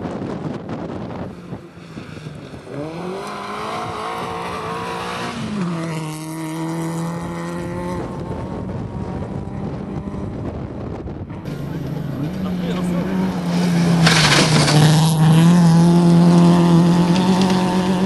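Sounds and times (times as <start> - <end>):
rally car engine at speed: 0.0 - 18.0
road noise: 0.0 - 18.0
wind noise: 0.0 - 18.0.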